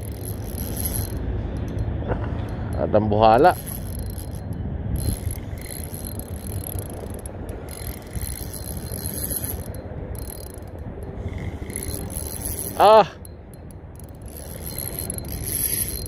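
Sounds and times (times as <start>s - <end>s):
fishing reel clicking: 0.0s - 16.0s.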